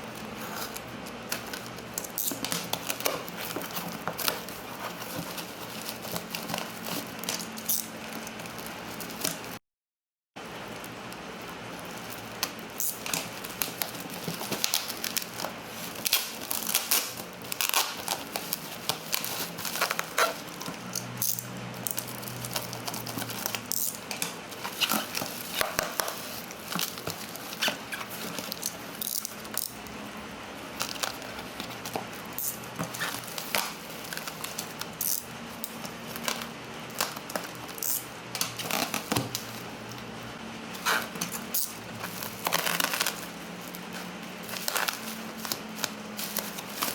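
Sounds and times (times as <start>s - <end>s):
plastic packaging crinkling: 0.0s - 9.6s, 10.5s - 29.9s, 30.6s - 40.0s, 40.6s - 46.9s.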